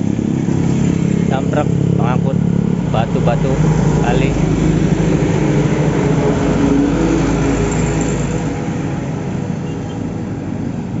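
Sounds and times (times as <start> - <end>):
truck engine passing by: 0.0 - 10.9.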